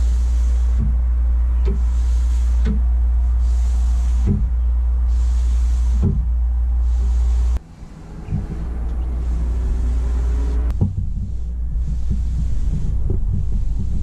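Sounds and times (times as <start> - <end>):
cloth rag rubbing wood: 0.0 - 1.0, 1.6 - 14.0
steady low rumble: 0.0 - 14.0.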